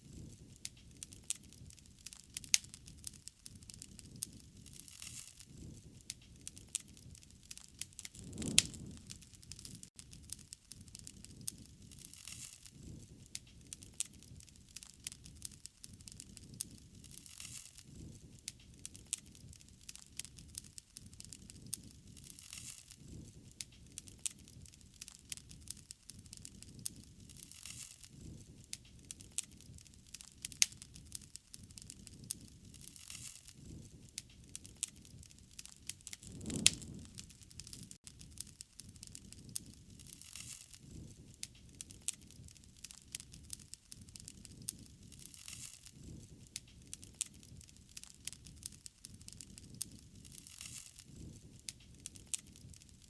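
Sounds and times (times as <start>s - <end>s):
bonfire popping and snapping: 0.0s - 53.0s
fire rumble: 0.0s - 53.0s.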